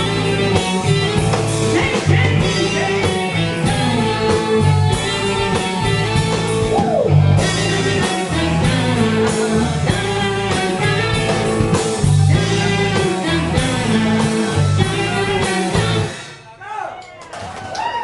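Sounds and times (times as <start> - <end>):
steady drum beat: 0.0 - 16.2
electric guitar: 0.0 - 16.4
bass guitar: 0.0 - 16.5.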